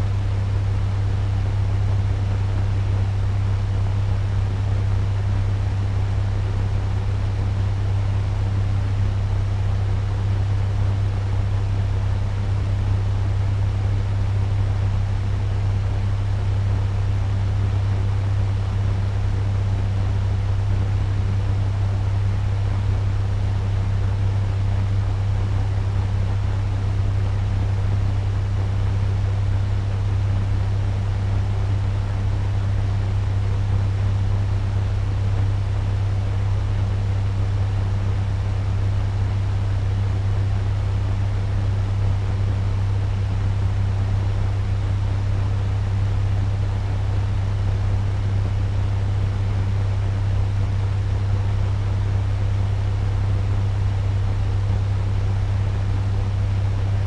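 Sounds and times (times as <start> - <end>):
fan rushing air with low hum: 0.0 - 57.0.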